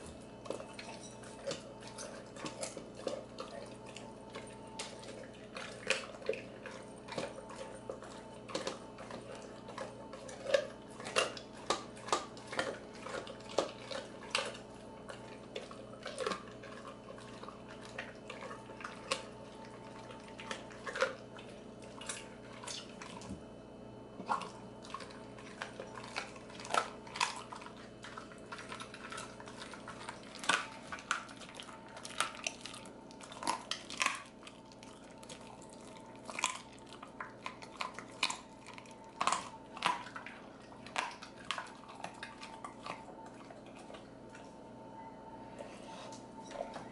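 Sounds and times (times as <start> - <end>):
dog licking and chewing: 0.0 - 23.5, 24.2 - 44.6.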